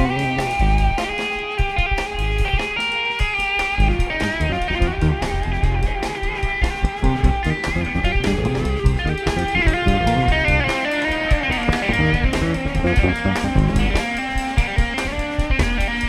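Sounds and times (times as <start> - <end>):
drum kit and cymbals: 0.0 - 16.0
electric bass: 0.0 - 16.0
electric guitar melody: 0.0 - 16.0.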